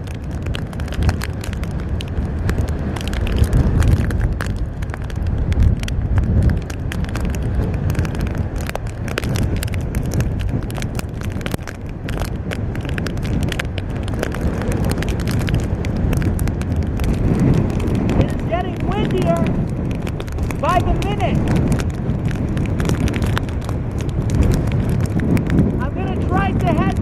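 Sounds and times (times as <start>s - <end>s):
rain ticking on camera case: 0.0s - 27.0s
wind buffeting microphone: 0.0s - 27.0s.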